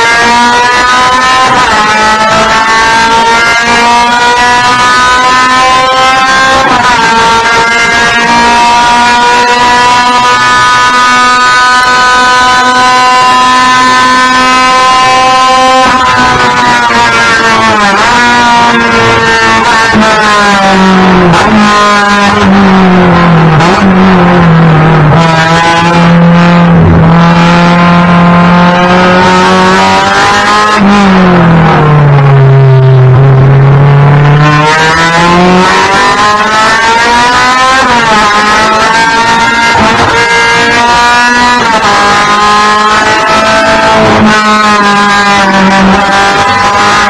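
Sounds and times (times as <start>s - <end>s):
race car engine accelerating: 0.0s - 47.0s.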